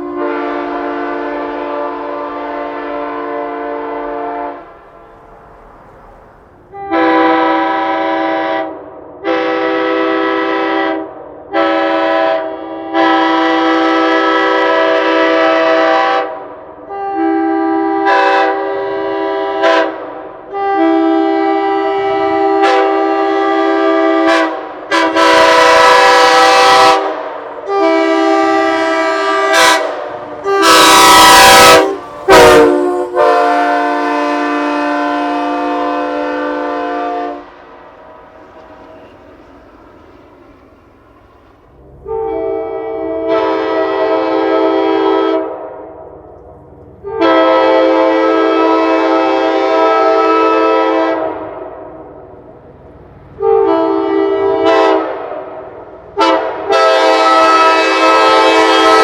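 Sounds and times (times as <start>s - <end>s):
train horn chord blasts: 0.0s - 5.3s, 6.7s - 37.6s, 42.0s - 46.0s, 47.0s - 51.9s, 53.4s - 55.3s, 56.2s - 59.0s.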